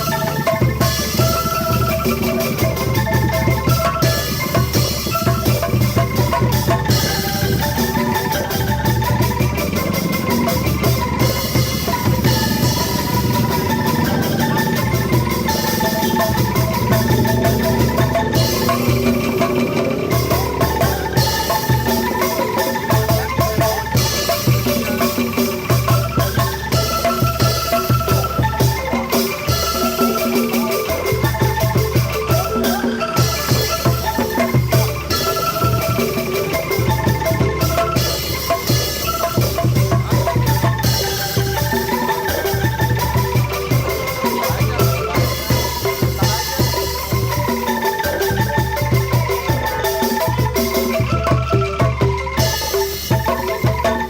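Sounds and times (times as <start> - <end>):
bamboo tubes rattling melody: 0.0 - 54.0.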